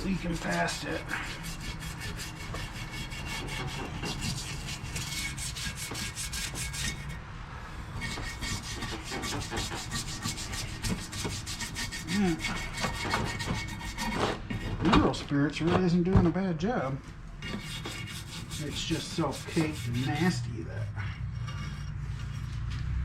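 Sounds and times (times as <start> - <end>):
brush scrubbing engine parts: 0.0 - 15.2, 17.4 - 22.8.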